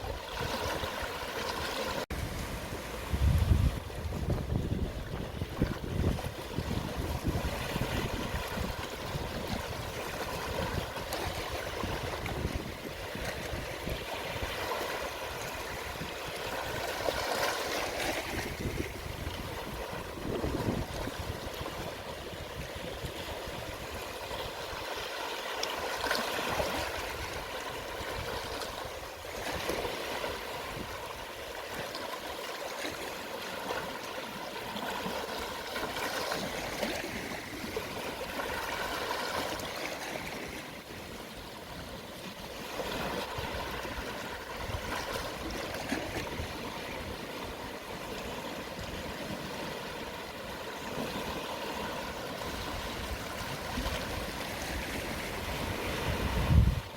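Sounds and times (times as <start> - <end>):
gentle waves washing onto shore: 0.0 - 56.9.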